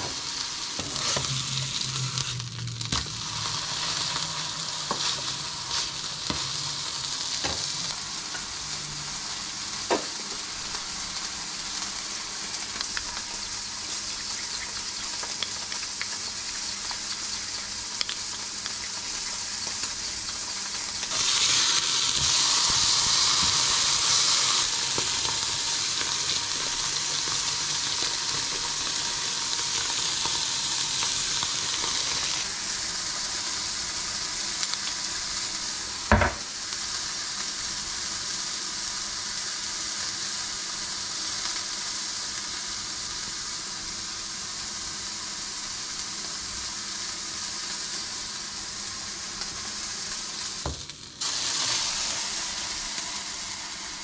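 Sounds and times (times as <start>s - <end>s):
burger sizzling in a frying pan: 0.0s - 54.0s.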